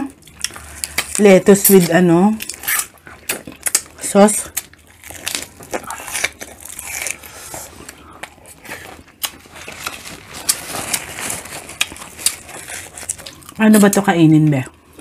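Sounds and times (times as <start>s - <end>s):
chewing crisp lettuce: 0.0s - 15.0s.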